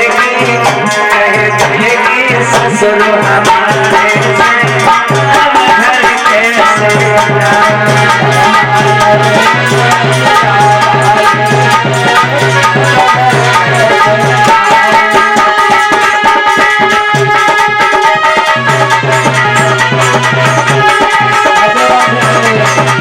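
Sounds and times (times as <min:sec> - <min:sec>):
drums: 0:00.0 - 0:23.0
shaker-like percussion: 0:00.0 - 0:23.0.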